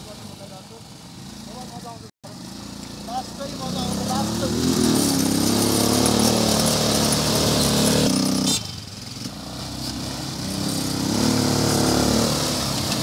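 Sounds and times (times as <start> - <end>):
quad bike engines droning: 0.0 - 13.0.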